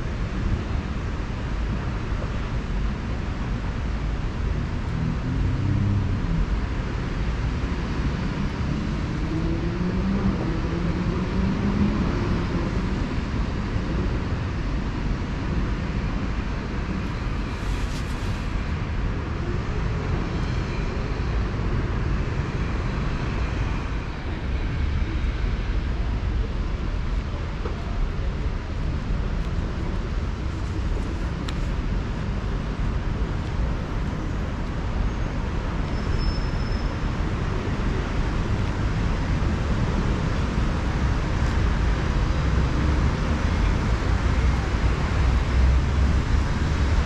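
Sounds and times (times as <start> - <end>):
distant city traffic rumble: 0.0 - 47.0.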